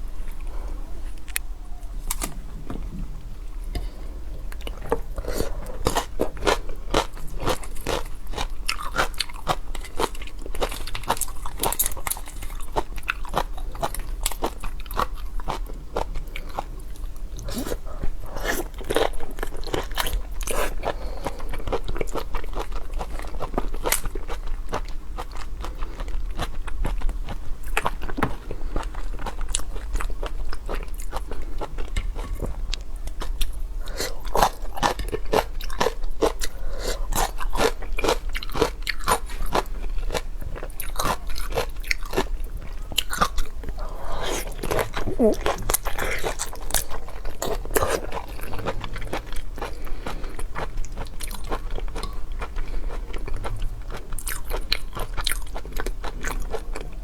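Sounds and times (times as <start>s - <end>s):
person crunching and chewing seafood: 3.7s - 57.0s.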